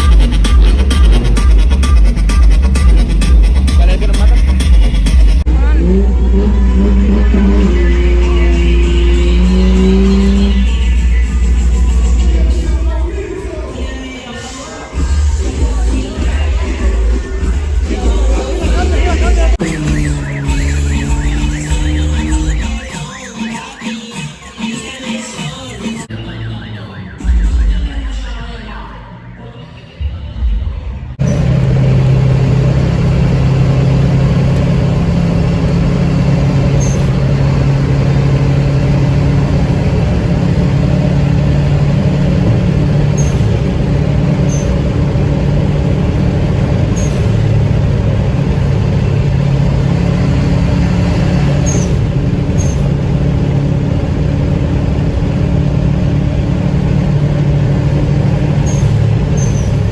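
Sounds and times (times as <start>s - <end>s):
car engine running loud: 0.0s - 14.1s, 15.1s - 22.9s, 31.2s - 59.9s.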